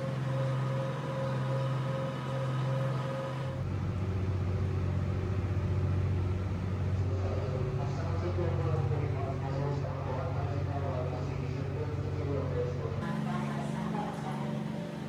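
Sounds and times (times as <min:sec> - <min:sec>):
train equipment humming: 0:00.0 - 0:15.0.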